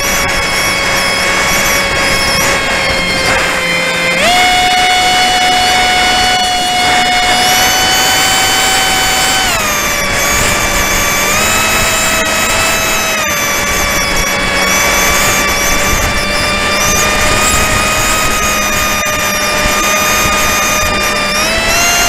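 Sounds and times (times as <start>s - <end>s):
model airplane motor whining: 0.0s - 22.0s
wind noise: 0.0s - 22.0s.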